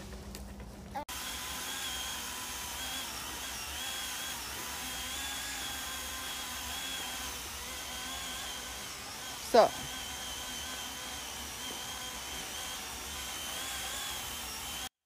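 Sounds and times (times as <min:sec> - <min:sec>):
chainsaw cutting tree trunk: 0:01.1 - 0:15.0.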